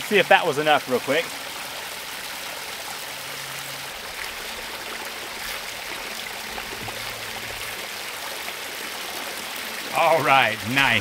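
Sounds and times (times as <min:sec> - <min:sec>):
water pouring from pipe into pool: 0:00.0 - 0:11.0.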